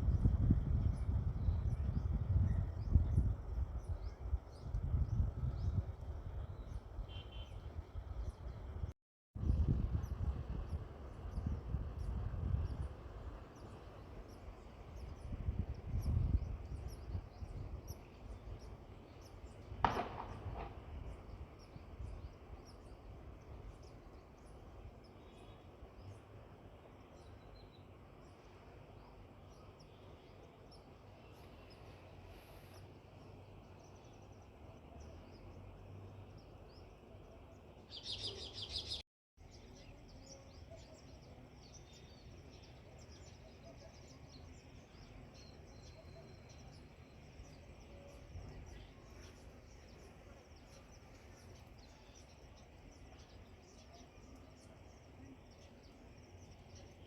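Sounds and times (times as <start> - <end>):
sparrows chirping: 0.0 - 8.8, 9.4 - 57.0.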